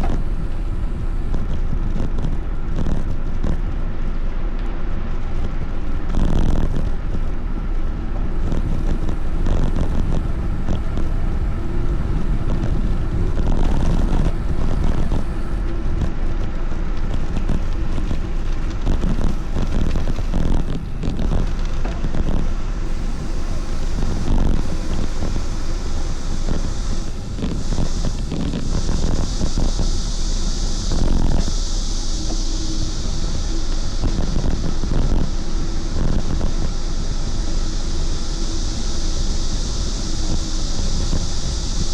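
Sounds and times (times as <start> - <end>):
wind buffeting microphone: 5.6 - 41.9.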